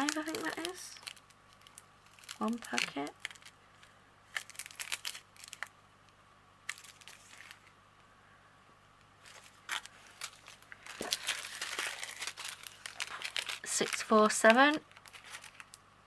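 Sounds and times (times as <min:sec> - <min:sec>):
plastic bags crinkling: 0:00.0 - 0:05.8, 0:06.6 - 0:07.8, 0:09.2 - 0:15.8.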